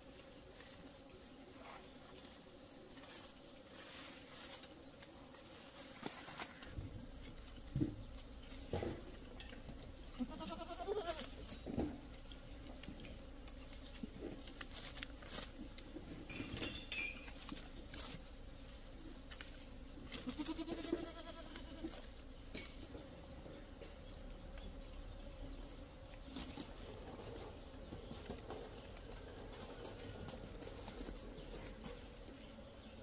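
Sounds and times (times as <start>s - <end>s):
leaves and branches rustling: 0.0s - 33.0s.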